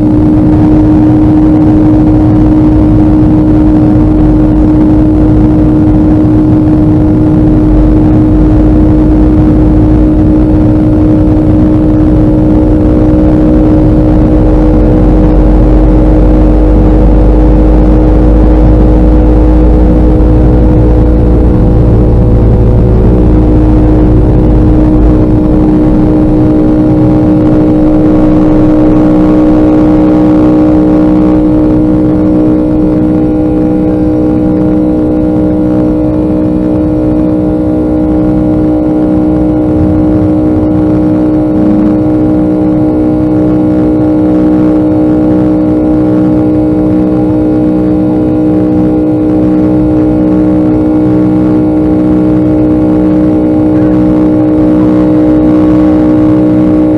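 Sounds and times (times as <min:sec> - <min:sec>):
deep rumble: 0:00.0 - 0:56.9
jet engines droning in cabin: 0:00.0 - 0:56.9.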